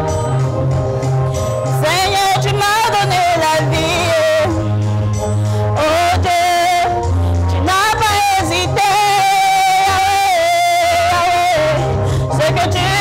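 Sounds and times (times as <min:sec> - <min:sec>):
bass line of low notes: 0:00.0 - 0:13.0.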